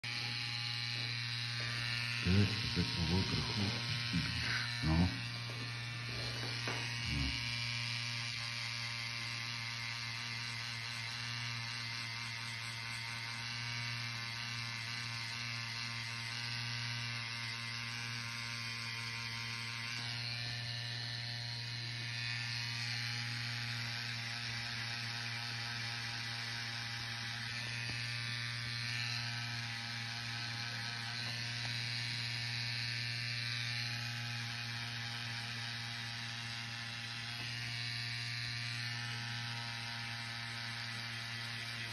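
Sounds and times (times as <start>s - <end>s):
tattoo pen humming: 0.0s - 41.9s.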